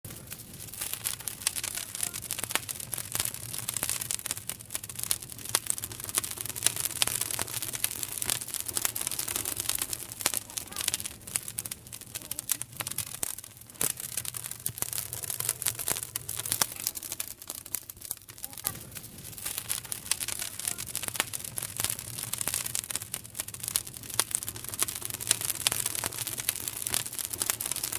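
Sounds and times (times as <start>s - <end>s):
fire crackling: 0.0s - 27.9s.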